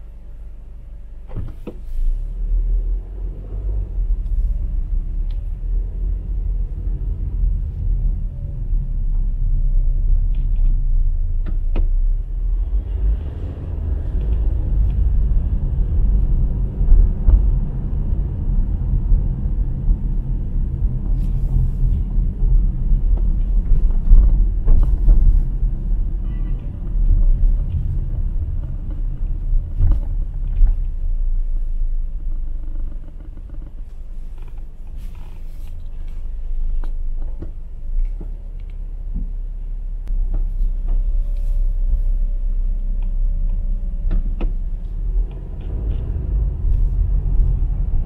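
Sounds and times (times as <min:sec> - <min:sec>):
car interior rumble: 0:00.0 - 0:48.0.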